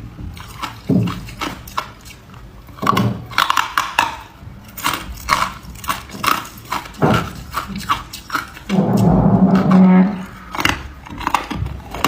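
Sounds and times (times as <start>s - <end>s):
person chewing ice crunching: 0.0s - 12.0s.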